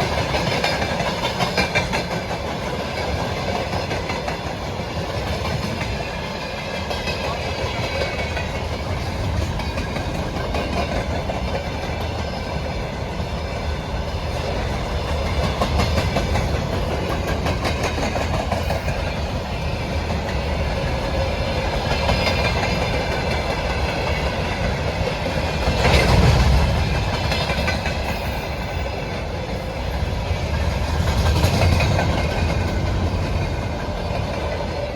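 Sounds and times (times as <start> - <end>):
train rumble: 0.0 - 34.9
wheels clacking over rail joints: 0.0 - 34.9.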